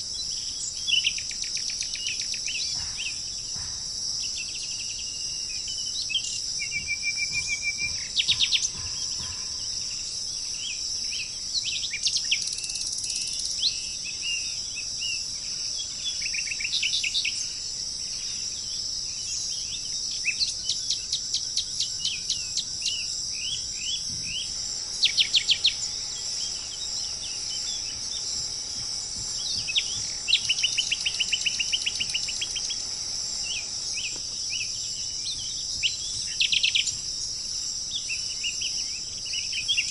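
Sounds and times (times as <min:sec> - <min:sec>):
birds chirping and trilling: 0:00.0 - 0:39.9
high-pitched insect drone: 0:00.0 - 0:39.9.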